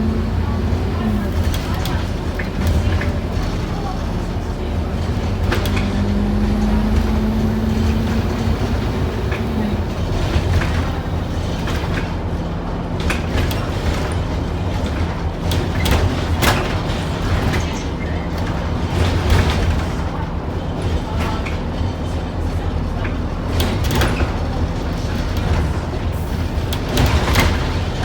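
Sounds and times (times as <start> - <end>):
bus diesel engine drone: 0.0 - 28.0
rattles and clicks: 0.1 - 28.0.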